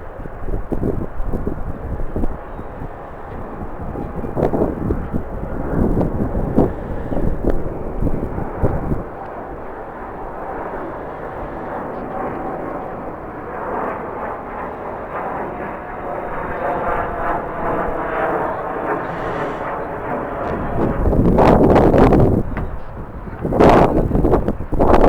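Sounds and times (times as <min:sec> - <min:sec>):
jet engines rushing: 0:00.0 - 0:25.0.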